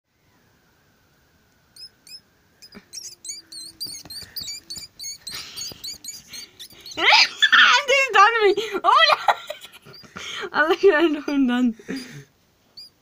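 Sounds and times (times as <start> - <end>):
rat squeaking: 1.8 - 12.2, 12.8 - 13.0.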